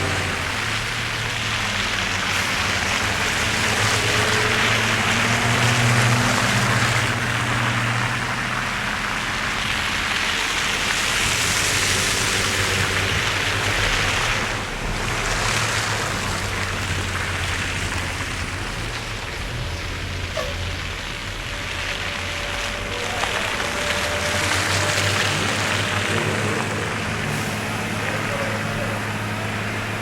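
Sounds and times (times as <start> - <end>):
tyres hissing through wet slush: 0.0 - 30.0.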